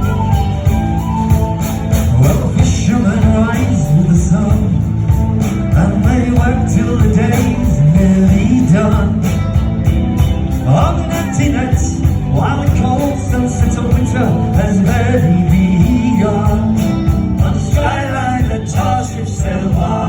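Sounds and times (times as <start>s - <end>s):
folk-rock band playing: 0.0s - 20.0s.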